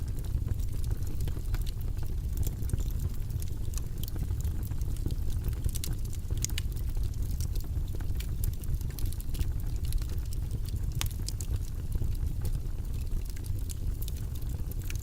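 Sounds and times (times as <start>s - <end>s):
low rumbling white noise: 0.0s - 15.0s.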